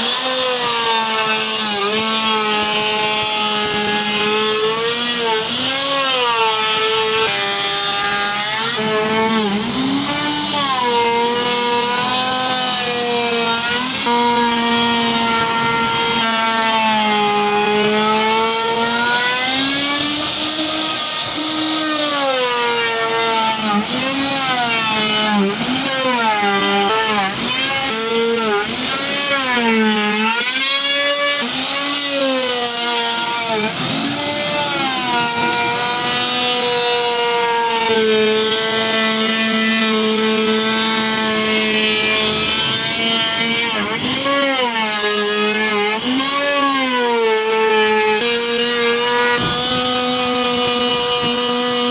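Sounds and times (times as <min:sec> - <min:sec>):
router motor whining: 0:00.0 - 0:51.9.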